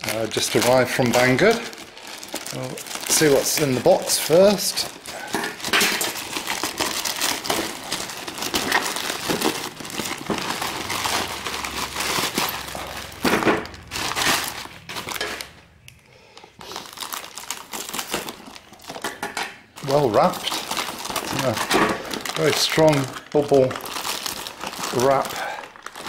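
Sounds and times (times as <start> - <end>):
plastic mailer bag crinkling: 0.0 - 15.7, 16.6 - 26.0
air-column packaging crinkling: 0.0 - 26.0.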